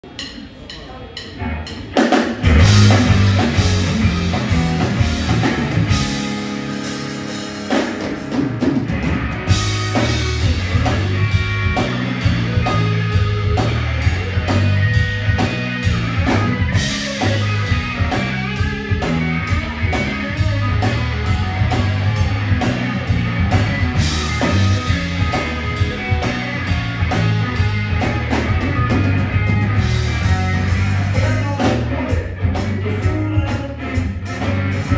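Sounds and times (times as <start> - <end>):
blues-rock band playing: 0.0 - 34.9.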